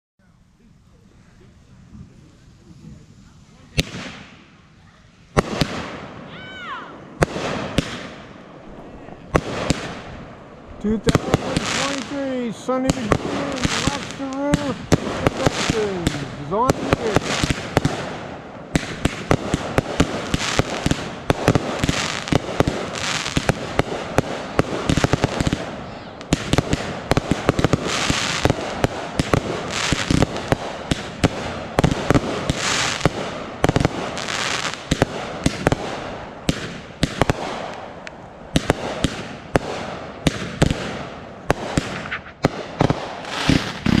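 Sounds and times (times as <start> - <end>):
fireworks crackling and hissing: 0.2 - 44.0
fireworks bangs and pops: 1.9 - 4.6, 5.3 - 6.4, 7.0 - 44.0.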